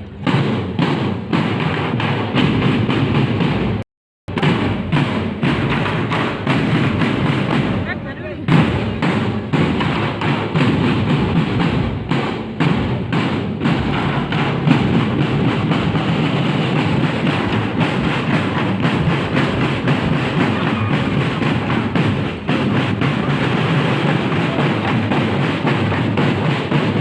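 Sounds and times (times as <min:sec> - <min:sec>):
drum-led parade music: 0:00.0 - 0:27.0.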